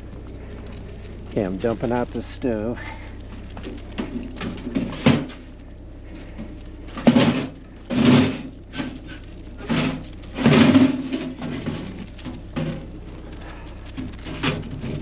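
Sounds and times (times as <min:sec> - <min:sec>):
coals scraped out of wood stove: 0:00.0 - 0:15.0.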